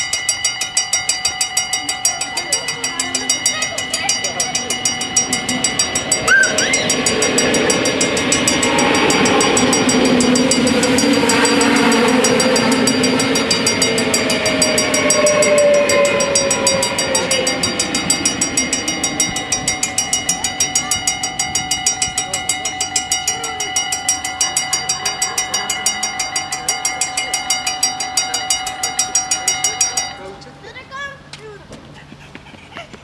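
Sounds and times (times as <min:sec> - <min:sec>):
level crossing bells ringing: 0:00.0 - 0:31.3
train passing: 0:00.0 - 0:33.0.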